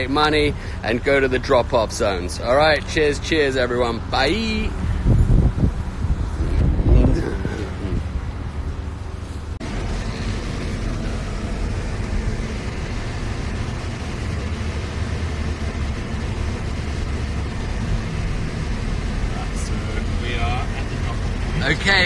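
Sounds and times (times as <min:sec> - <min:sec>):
car road and engine noise: 0:00.0 - 0:22.0
outdoor background sound: 0:00.0 - 0:22.0.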